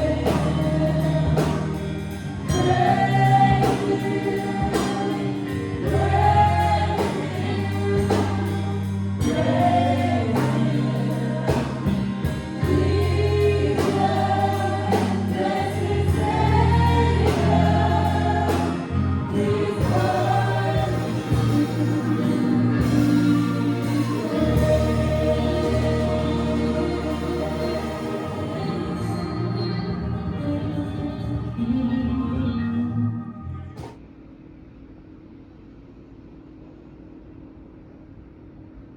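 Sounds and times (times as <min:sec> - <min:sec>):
bass notes: 0:00.0 - 0:33.8
gospel choir singing: 0:00.0 - 0:34.0.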